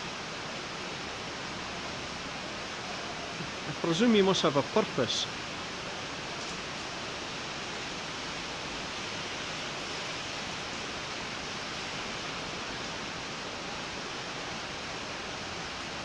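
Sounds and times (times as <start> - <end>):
heavy rain on concrete: 0.0 - 16.0.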